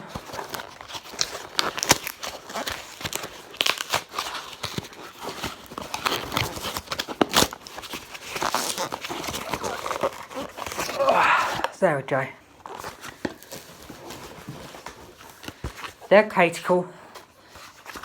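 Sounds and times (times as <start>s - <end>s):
packaging rustling and crinkling: 0.0s - 11.8s, 12.4s - 16.2s, 17.1s - 18.0s.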